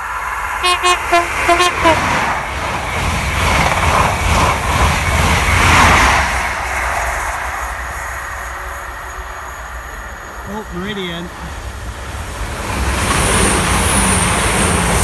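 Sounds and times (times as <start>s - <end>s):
train passing at speed: 0.0s - 15.0s
wheels rushing on rail: 0.0s - 15.0s.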